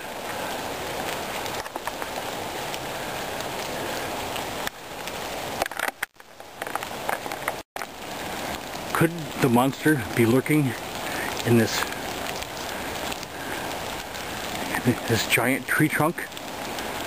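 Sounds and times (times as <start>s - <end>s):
rain falling on foliage: 0.0s - 17.0s.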